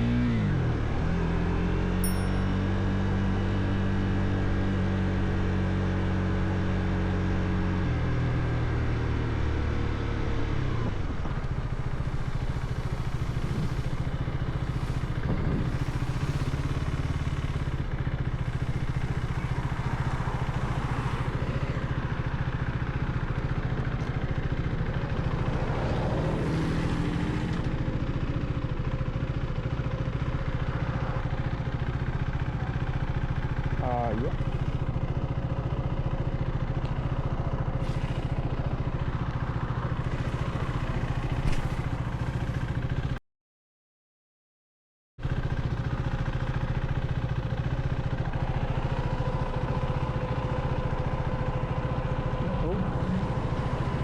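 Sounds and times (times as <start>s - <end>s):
motorcycle engine running: 0.0s - 43.2s, 45.2s - 54.0s.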